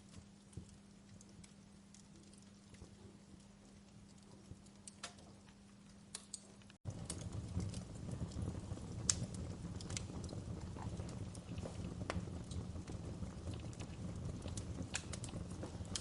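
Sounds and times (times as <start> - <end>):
fireplace fire crackling: 0.0 - 16.0
low rumble of fire: 0.0 - 16.0.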